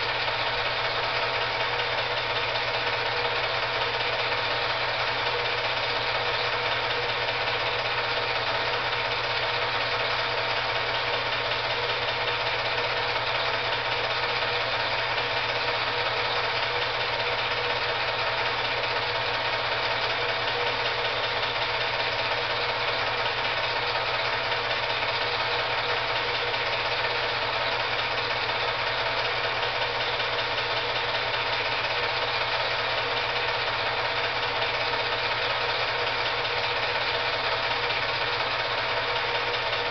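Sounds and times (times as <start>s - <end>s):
film projector running: 0.0s - 39.9s.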